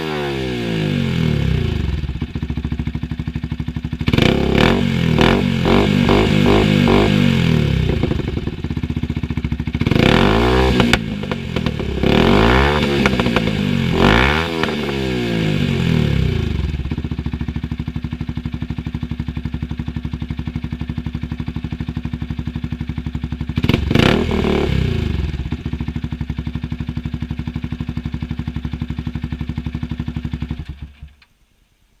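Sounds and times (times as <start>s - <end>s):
motorcycle engine revving and idling: 0.0s - 31.2s.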